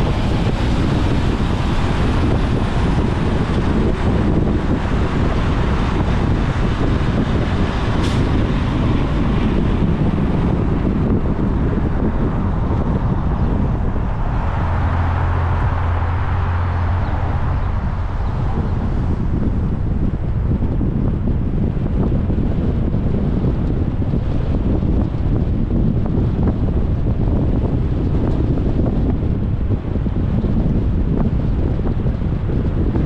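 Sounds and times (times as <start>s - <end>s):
deep low hum: 0.0s - 33.0s
motor coach running: 0.0s - 33.0s
road and traffic noise: 0.0s - 33.0s
wind on the microphone: 0.0s - 33.0s.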